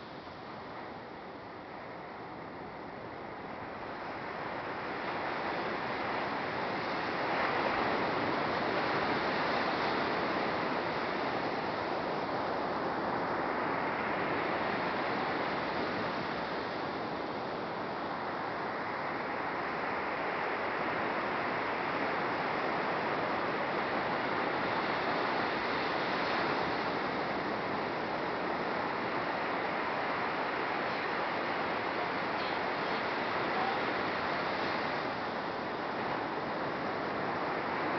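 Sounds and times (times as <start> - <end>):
surf breaking on beach: 3.7 - 37.9.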